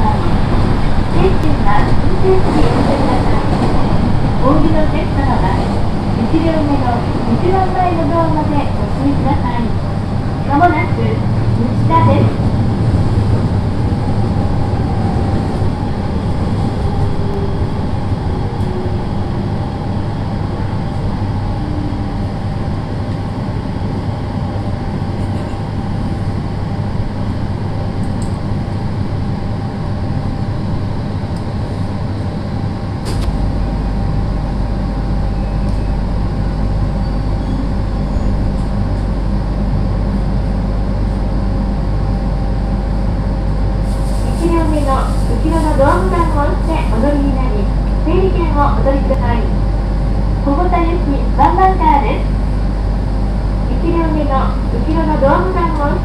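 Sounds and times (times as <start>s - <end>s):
train wheels rumbling on rails: 0.0s - 56.0s
low electric hum: 3.3s - 56.0s.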